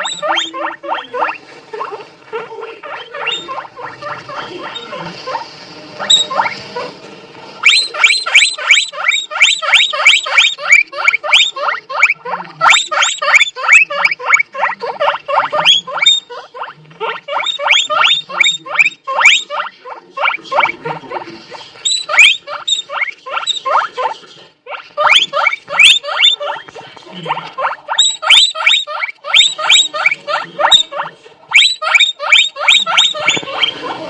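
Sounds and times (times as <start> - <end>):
small animal squeaking: 0.0 - 2.0, 2.8 - 6.9, 7.6 - 34.0.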